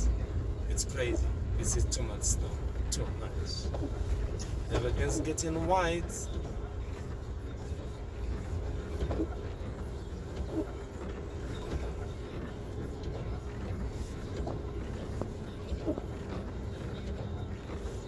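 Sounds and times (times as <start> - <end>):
vehicle rumble in motion: 0.0 - 18.0.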